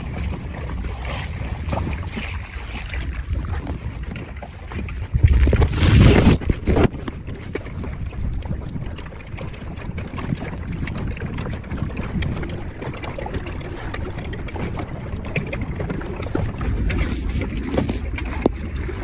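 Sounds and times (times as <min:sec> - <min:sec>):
water splashing against hull: 0:00.0 - 0:19.0
wind on microphone: 0:00.0 - 0:19.0.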